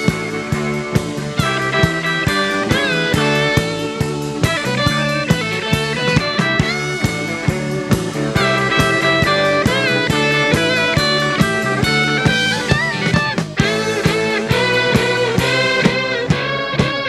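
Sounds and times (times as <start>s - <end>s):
bass guitar: 0.0s - 17.0s
electric guitar lead: 0.0s - 17.0s
steady drum beat: 0.0s - 17.0s.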